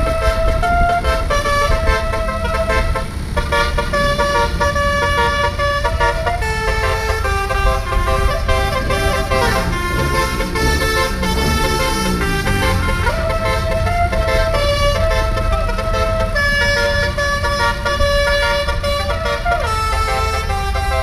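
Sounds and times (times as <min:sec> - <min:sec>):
steady low rumble: 0:00.0 - 0:20.7
musical multi-tone air horn: 0:00.0 - 0:21.0.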